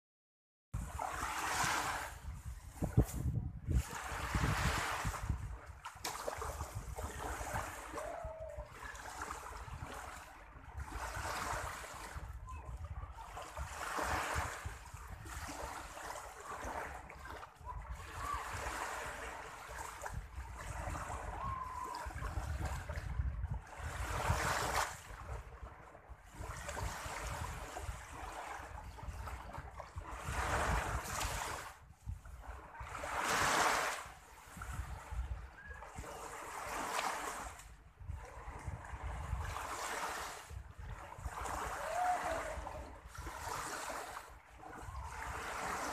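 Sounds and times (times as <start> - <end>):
small sea waves washing: 0.8 - 45.9
wind rumbling on microphone: 0.8 - 45.9.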